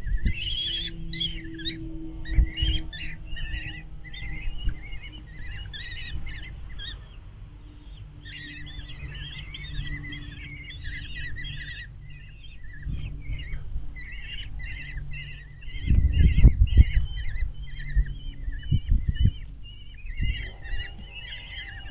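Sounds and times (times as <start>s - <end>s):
bird nestlings begging calls: 0.0s - 21.9s
steady low rumble: 0.0s - 21.9s.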